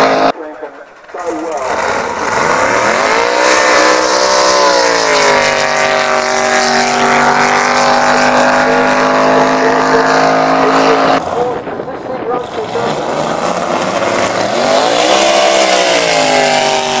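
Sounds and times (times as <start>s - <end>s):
boat engine at high revs: 0.0s - 0.3s, 1.3s - 11.6s, 12.4s - 17.0s.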